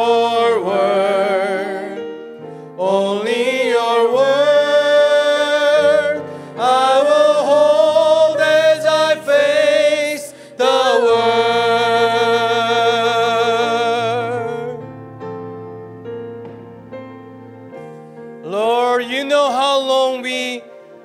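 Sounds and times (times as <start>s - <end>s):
man singing worship song: 0.0s - 14.8s, 18.4s - 20.8s
instrumental accompaniment: 0.0s - 21.0s.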